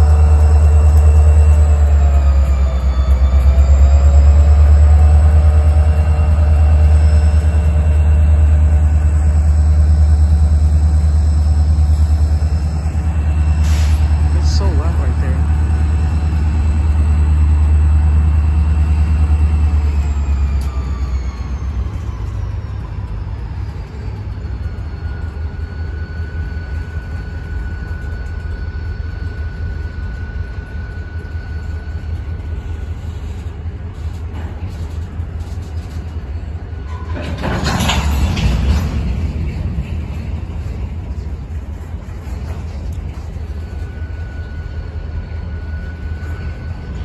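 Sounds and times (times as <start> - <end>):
high metallic squeal: 0.0 - 33.4, 42.2 - 47.0
diesel locomotive rumble: 0.0 - 47.0
freight cars rumbling on rails: 0.0 - 47.0.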